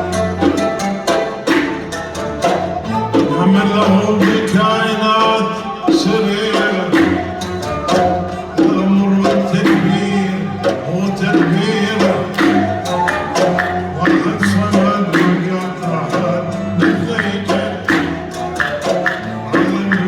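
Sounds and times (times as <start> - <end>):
hand drums rhythm: 0.0 - 20.0
sustained melodic instruments: 0.0 - 20.0.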